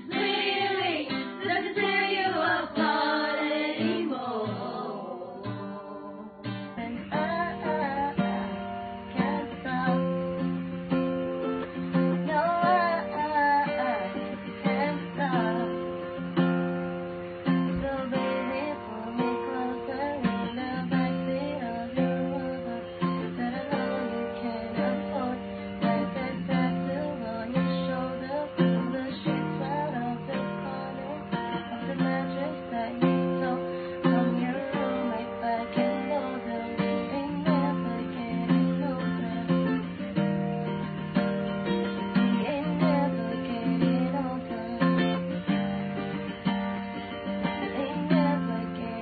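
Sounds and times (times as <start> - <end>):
acoustic guitar chords: 0.0 - 49.0.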